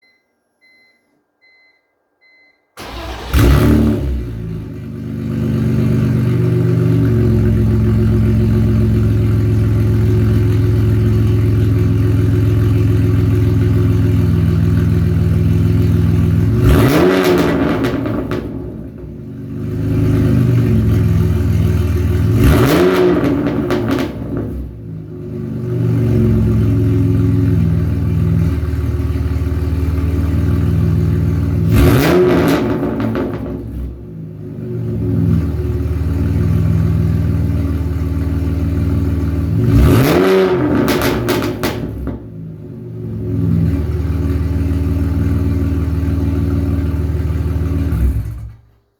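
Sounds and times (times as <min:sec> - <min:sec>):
car engine idling and revving: 0:02.8 - 0:48.8.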